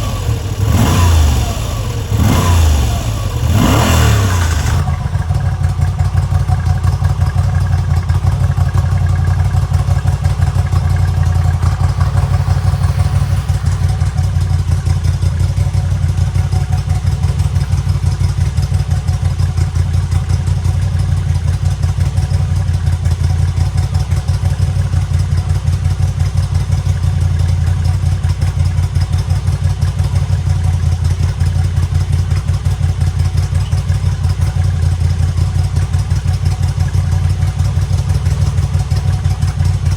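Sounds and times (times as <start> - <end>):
motorcycle v-twin engine idling: 0.0 - 39.9.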